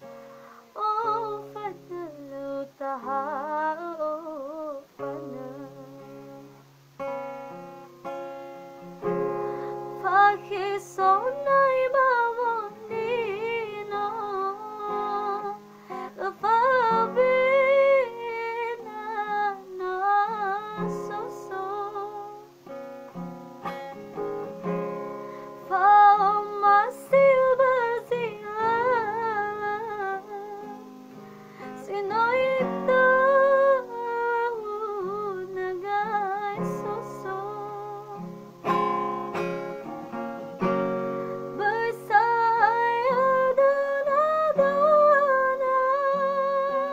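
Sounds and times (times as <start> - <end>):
guitar accompaniment: 0.0 - 46.9
woman singing with vibrato: 0.4 - 6.6, 9.6 - 22.7, 25.5 - 31.0, 31.6 - 39.0, 41.4 - 46.9.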